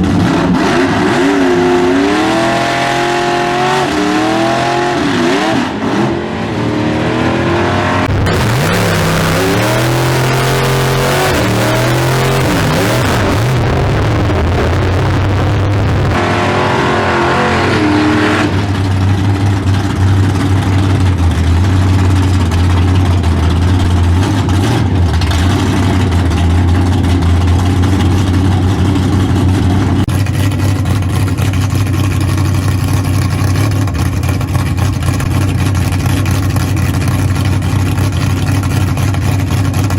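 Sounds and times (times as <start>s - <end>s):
engine accelerating through gears: 0.0s - 39.9s.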